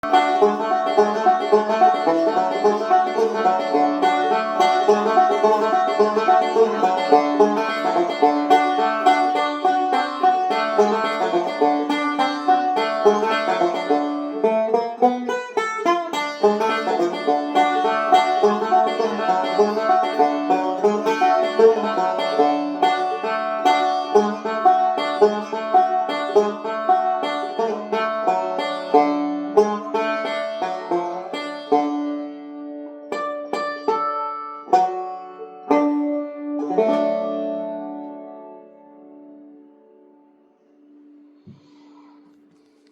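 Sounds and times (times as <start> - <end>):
banjo picking: 0.0 - 42.9.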